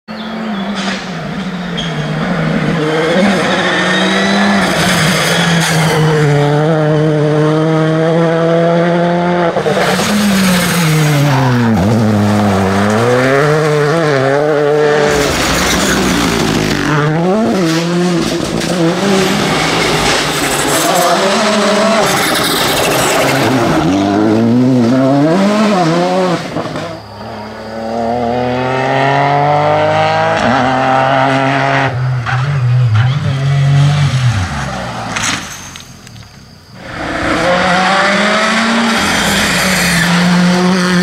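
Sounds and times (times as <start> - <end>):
rally car engines revving: 0.1 - 41.0.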